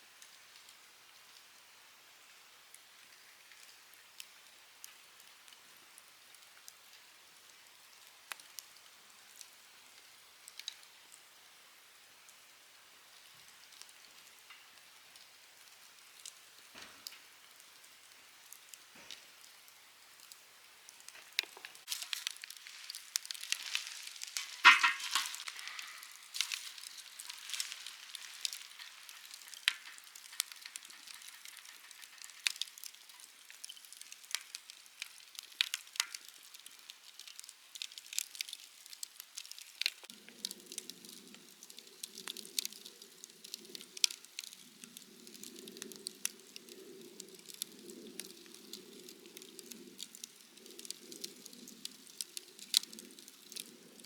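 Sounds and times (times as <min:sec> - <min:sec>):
campfire crackling and popping: 0:00.1 - 0:54.0.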